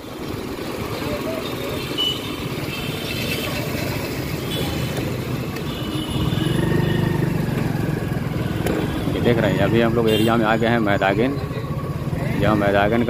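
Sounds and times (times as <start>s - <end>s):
motorcycle engine rumble: 0.0s - 13.0s
road traffic: 0.0s - 13.0s.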